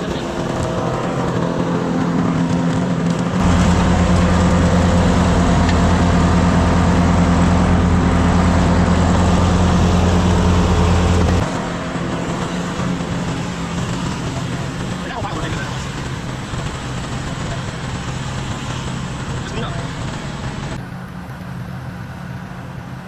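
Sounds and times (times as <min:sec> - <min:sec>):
skid steer engine running: 0:00.0 - 0:23.0.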